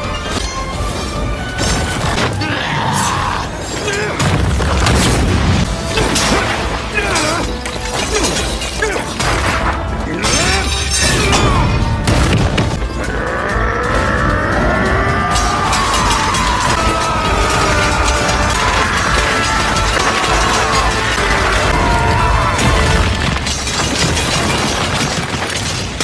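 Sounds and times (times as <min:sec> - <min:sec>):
dramatic background music: 0:00.0 - 0:26.0.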